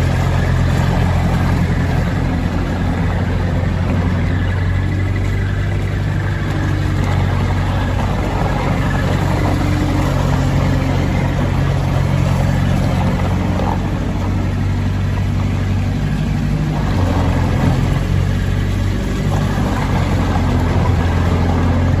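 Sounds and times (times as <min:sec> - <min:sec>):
diesel loader engine running: 0:00.0 - 0:22.0.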